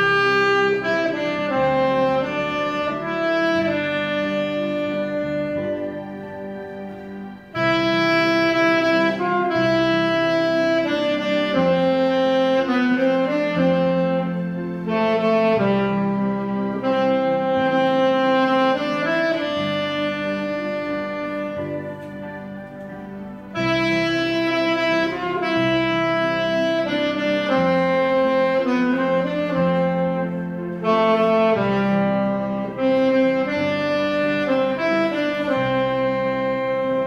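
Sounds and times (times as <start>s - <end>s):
alto saxophone melody: 0.0s - 37.0s.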